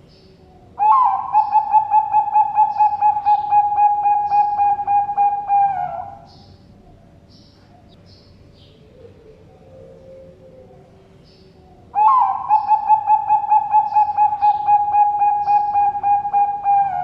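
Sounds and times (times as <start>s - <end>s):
dove cooing: 0.0s - 8.0s, 8.6s - 17.0s
small birds chirping: 0.0s - 17.0s.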